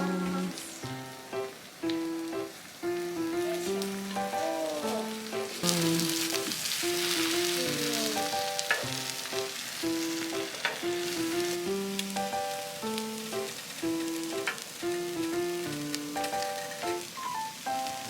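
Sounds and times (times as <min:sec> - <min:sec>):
food sizzling on a hot plate: 0:00.0 - 0:18.0
simple background melody: 0:00.0 - 0:18.0.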